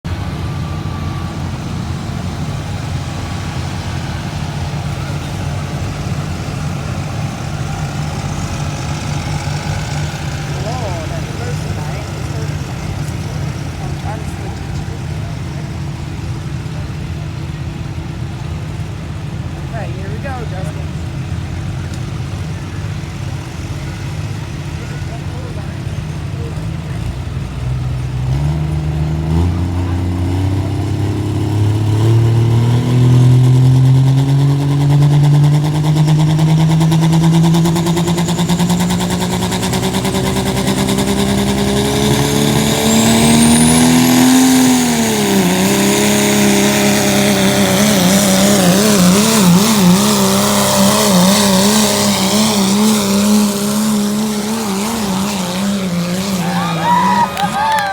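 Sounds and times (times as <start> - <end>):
truck engine at full throttle: 0.0 - 57.9.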